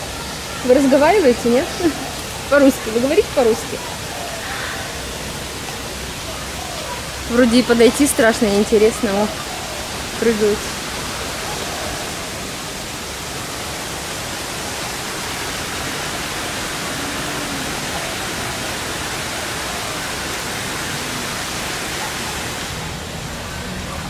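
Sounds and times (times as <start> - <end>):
falling water rushing: 0.0 - 24.0.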